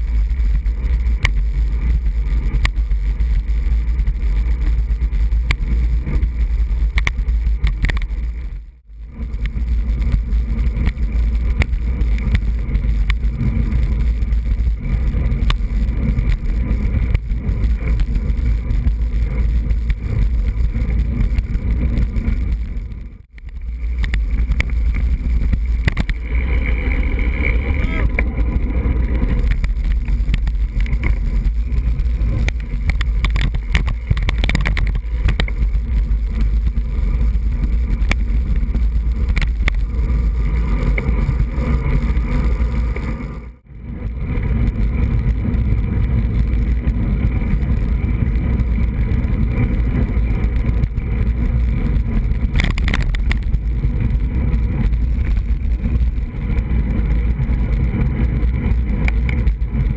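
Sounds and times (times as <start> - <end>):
road and tyre noise: 0.0 - 59.9
wind buffeting microphone: 0.0 - 59.9.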